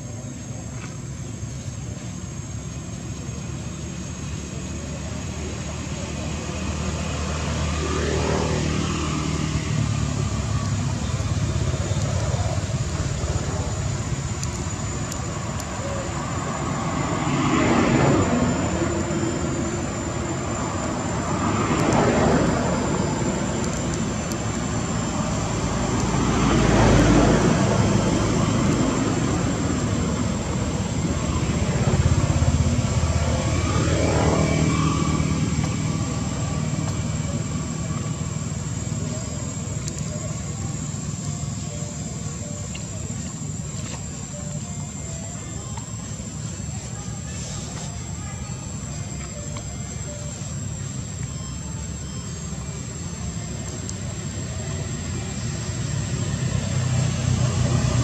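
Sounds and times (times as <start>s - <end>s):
distant traffic rumble: 0.0s - 58.0s
thin high whine: 0.0s - 58.0s.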